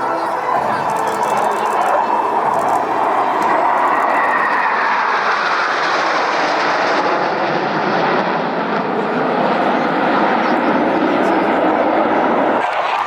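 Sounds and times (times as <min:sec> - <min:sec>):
jets flying past: 0:00.0 - 0:13.0.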